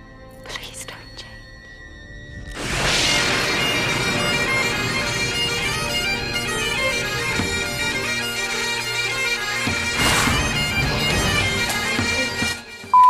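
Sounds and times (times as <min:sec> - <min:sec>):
bagpipe music: 0:01.7 - 0:13.0.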